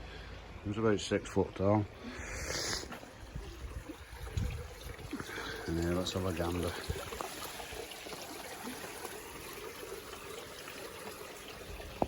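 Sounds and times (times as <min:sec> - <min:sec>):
water trickling into pond: 0:00.0 - 0:12.0.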